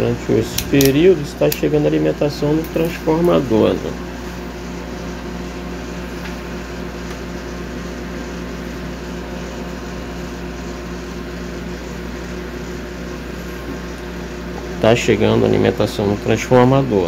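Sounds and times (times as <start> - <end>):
microwave oven mains hum: 0.0 - 17.0.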